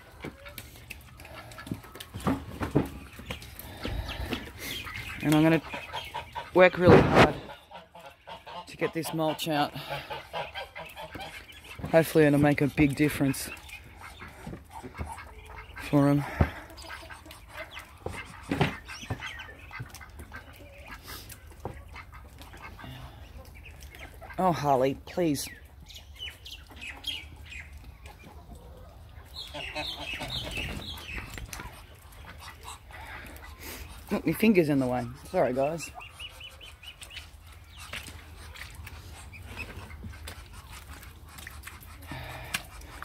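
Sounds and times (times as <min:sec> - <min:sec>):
chickens calling: 0:00.0 - 0:43.0
ducks calling: 0:00.0 - 0:43.0.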